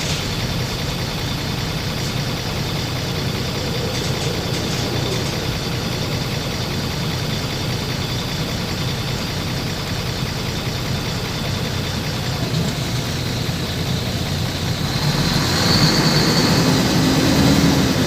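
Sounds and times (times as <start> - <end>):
engine rumbling steadily: 0.0 - 18.0.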